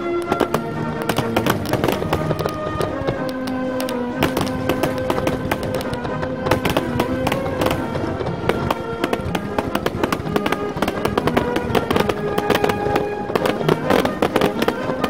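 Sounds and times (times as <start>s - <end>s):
firework shells bursting: 0.0s - 15.0s
music playing: 0.0s - 15.0s.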